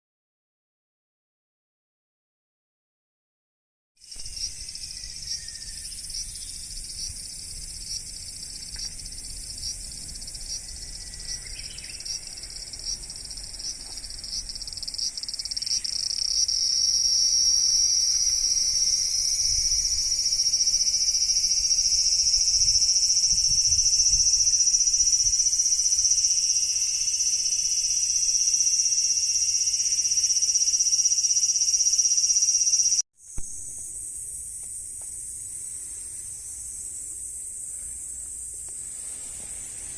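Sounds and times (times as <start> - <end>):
insects buzzing: 4.0 - 39.9
pulsing insect call: 4.0 - 39.9.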